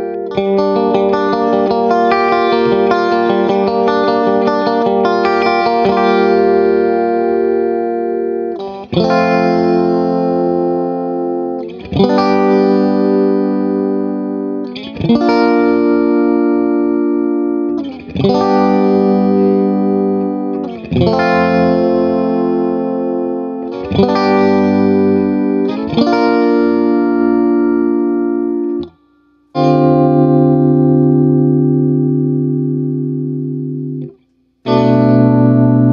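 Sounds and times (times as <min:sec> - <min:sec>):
electric guitar chords ringing: 0:00.0 - 0:35.9.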